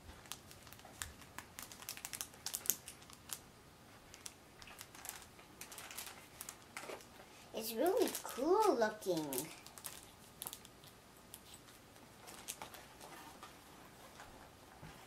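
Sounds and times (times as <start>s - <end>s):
light clicks and crinkling: 0.0s - 3.4s, 4.0s - 15.0s.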